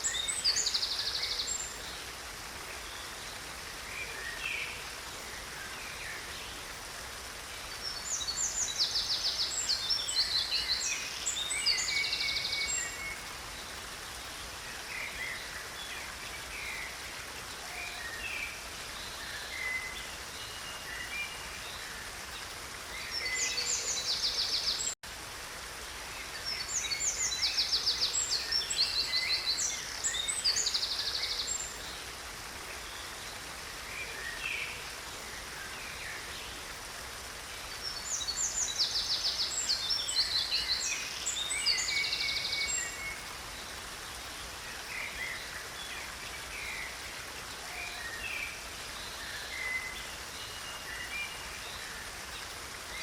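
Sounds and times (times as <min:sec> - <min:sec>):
stream rushing water: 0:00.0 - 0:53.0.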